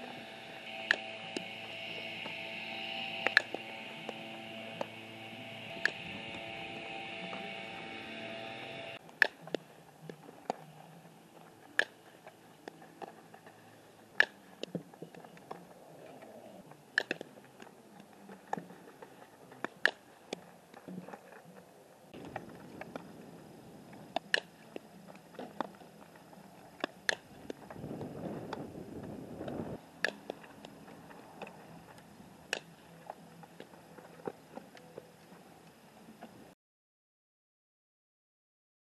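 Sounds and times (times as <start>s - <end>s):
faint outdoor hiss: 0.0s - 36.5s.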